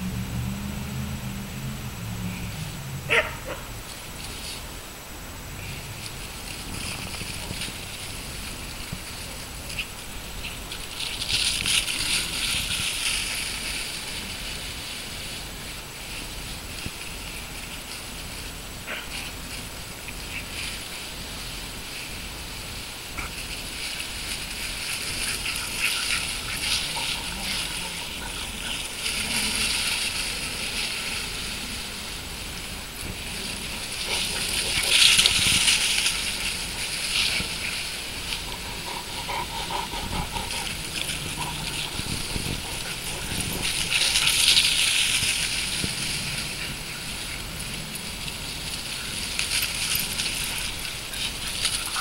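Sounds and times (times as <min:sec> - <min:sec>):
dogs running through dry leaves: 0:00.0 - 0:52.0.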